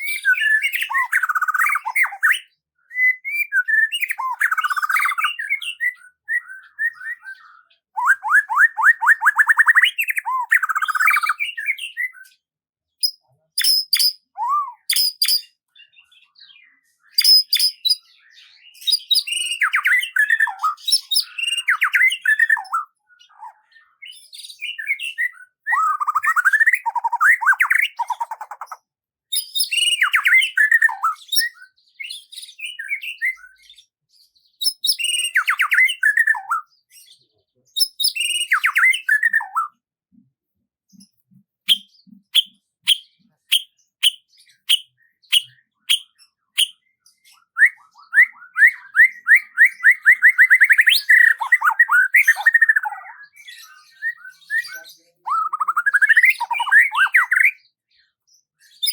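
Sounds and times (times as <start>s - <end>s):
songbird singing trills and chirps: 0.0s - 40.3s, 40.9s - 58.9s.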